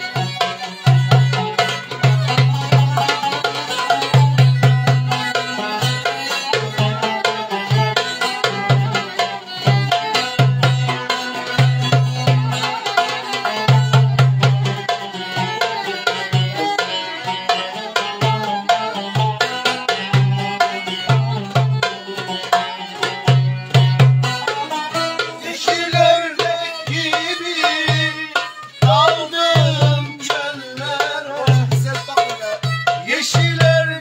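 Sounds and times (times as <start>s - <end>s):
goblet drum fast rhythm: 0.0s - 34.0s
violin melody: 0.0s - 34.0s.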